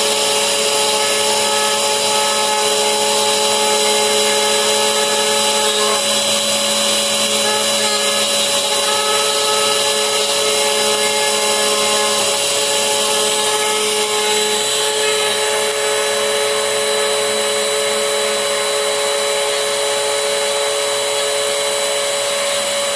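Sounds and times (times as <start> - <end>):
bit milling into wood: 0.0 - 22.6
dust extraction vacuum rushing: 0.0 - 22.9
router spindle whining: 0.0 - 22.9.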